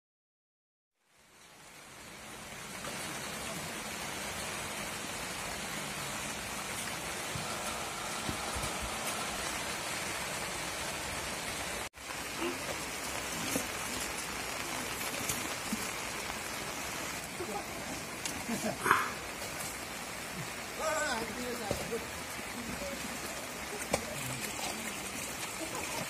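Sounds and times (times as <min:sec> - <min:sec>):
rain falling: 0:01.0 - 0:26.0.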